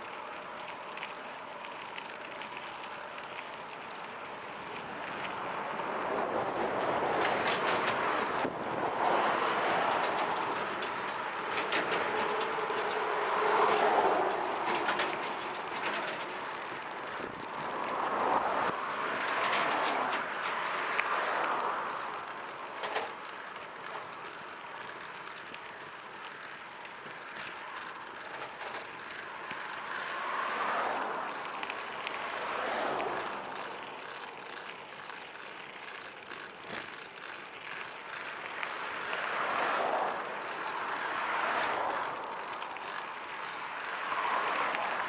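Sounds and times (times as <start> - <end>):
cars passing: 0.0 - 45.0
trike rolling noise: 0.0 - 45.0.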